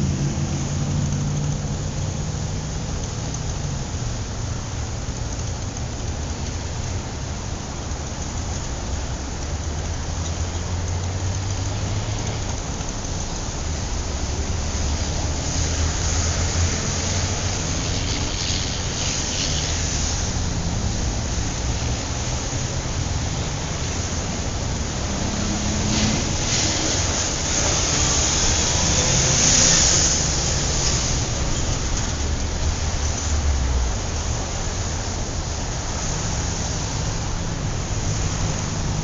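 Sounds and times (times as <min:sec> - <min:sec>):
traffic rumble: 0:00.0 - 0:39.0
vehicles passing: 0:00.0 - 0:39.0.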